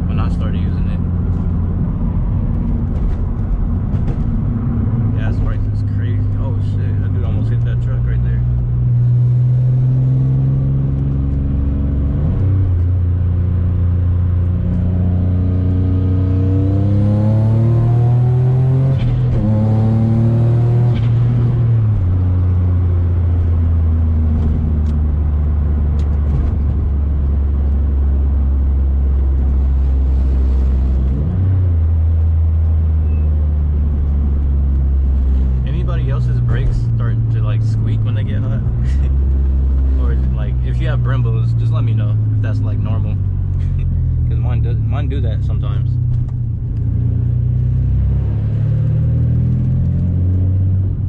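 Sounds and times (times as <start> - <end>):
car engine accelerating and cruising: 0.0 - 51.0.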